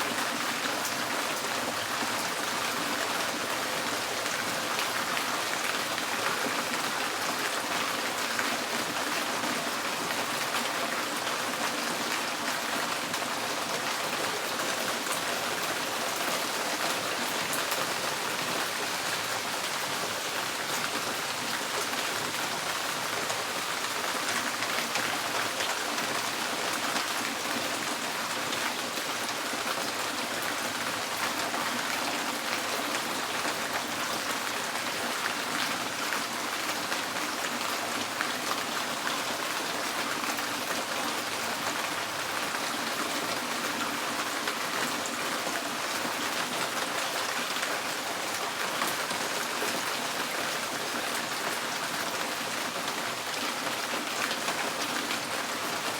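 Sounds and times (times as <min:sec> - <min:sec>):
rain pattering on a tin roof: 0:00.0 - 0:55.9.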